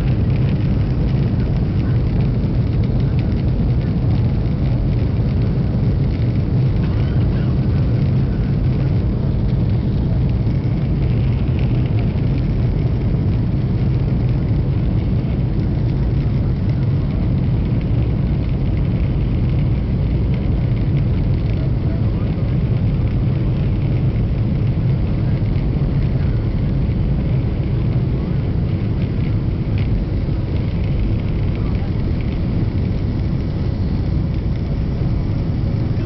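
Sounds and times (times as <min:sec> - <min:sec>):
airliner engines rumbling: 0:00.0 - 0:36.0.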